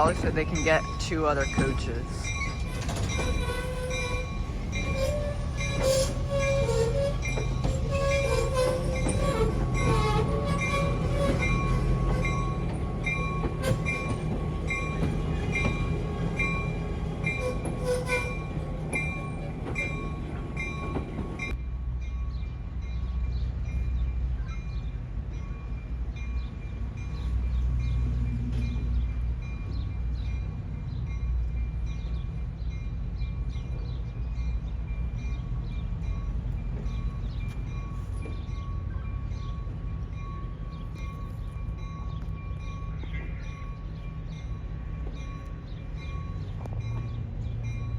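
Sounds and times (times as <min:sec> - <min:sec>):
train rumbling: 0:00.0 - 0:47.9.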